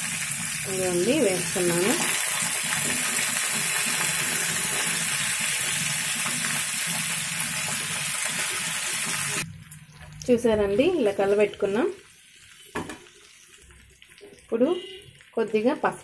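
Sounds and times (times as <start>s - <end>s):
eggplant sizzling in hot oil: 0.0s - 9.5s, 10.3s - 16.0s.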